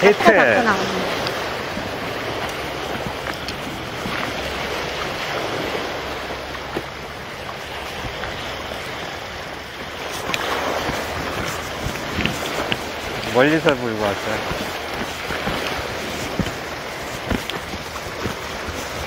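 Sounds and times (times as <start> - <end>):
small waves breaking on concrete: 0.0 - 19.0.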